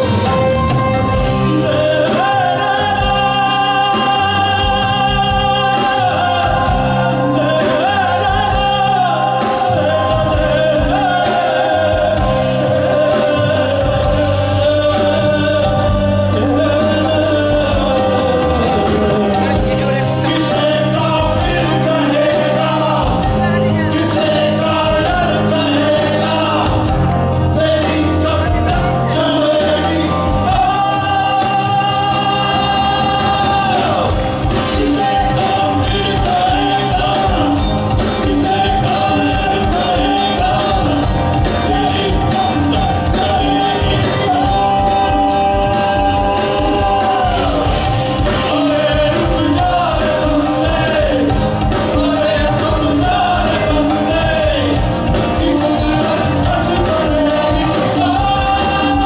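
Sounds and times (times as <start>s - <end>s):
bass: 0.0s - 59.0s
drum kit: 0.0s - 59.0s
guitars: 0.0s - 59.0s.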